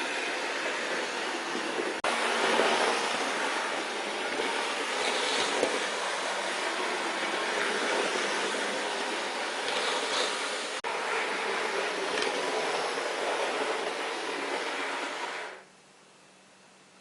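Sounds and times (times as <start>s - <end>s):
model train motor whirring: 0.0s - 15.6s.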